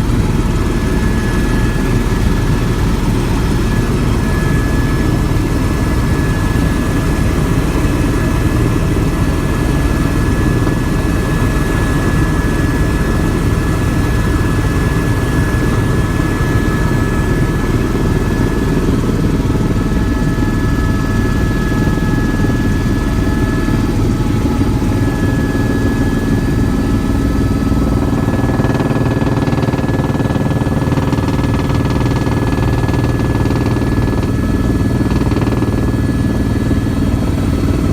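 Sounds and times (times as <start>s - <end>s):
helicopter engine and rotor drone: 0.0s - 37.9s.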